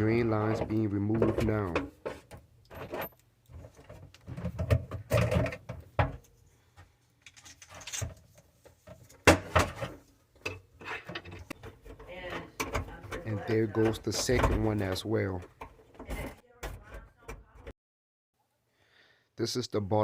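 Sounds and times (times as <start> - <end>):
drain pipes knocking and scraping: 0.0 - 17.7.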